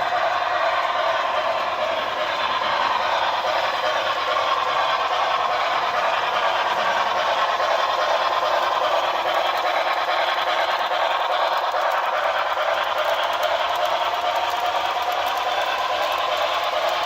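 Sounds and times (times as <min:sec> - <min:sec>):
model train chuffing and clattering: 0:00.0 - 0:17.0.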